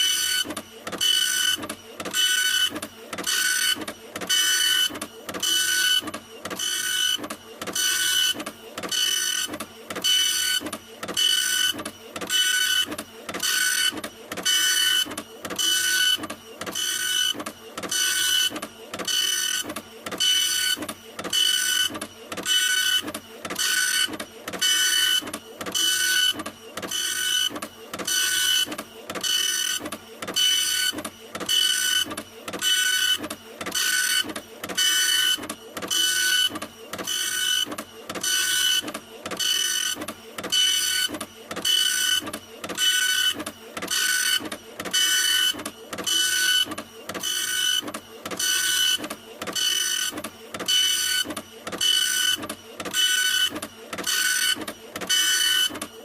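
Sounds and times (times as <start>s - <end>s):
printer whirring: 0.0s - 56.0s.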